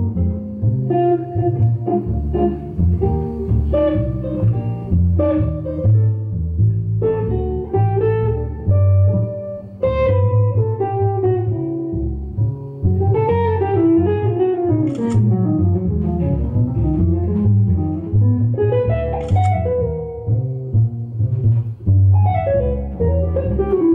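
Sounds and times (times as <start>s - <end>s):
electric guitar playing chords: 0.0s - 23.9s
plucked double bass: 0.0s - 23.9s.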